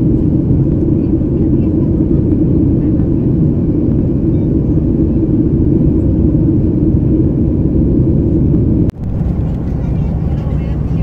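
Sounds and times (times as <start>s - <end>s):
airflow past fuselage: 0.0s - 11.0s
jet engines low rumble: 0.0s - 11.0s.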